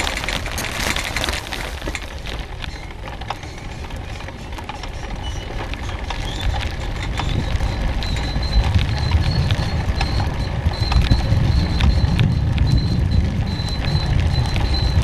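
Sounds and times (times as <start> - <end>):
small rattling clicks: 0.0 - 12.8
bike tyres on pavement: 0.0 - 15.0
wind buffeting the microphone: 0.0 - 15.0.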